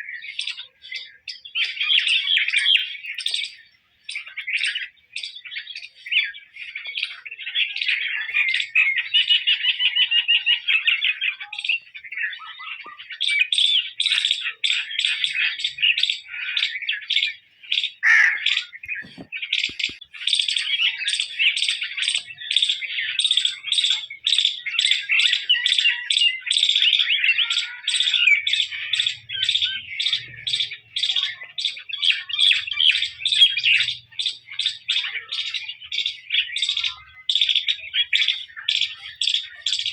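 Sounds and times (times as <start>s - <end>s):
songbird chirping and warbling: 0.0s - 39.9s.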